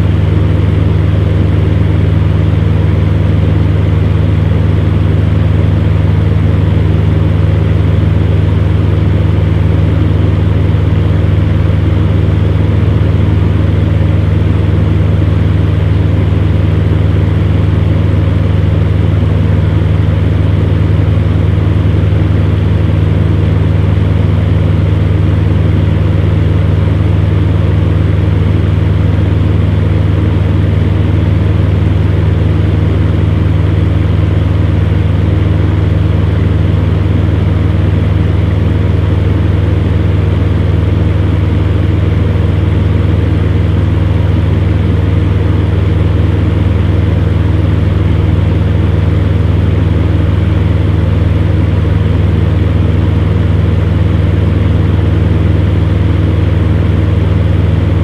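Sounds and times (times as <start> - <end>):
fan heater running: 0.0 - 58.0.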